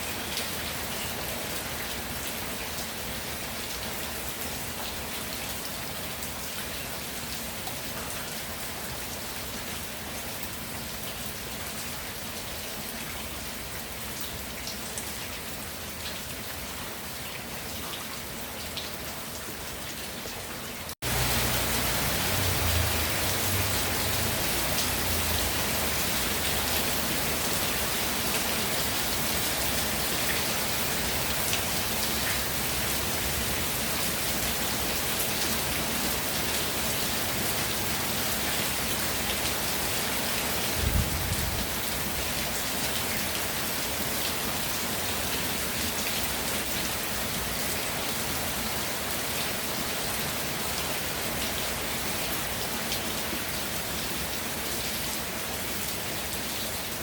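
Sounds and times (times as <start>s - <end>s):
rain pattering on ground: 0.0s - 57.0s.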